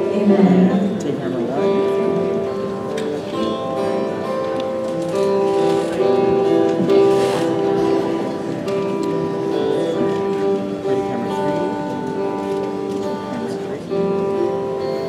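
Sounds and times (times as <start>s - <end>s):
acoustic guitar strumming: 0.0s - 15.0s
band playing quiet instrumental music: 0.0s - 15.0s.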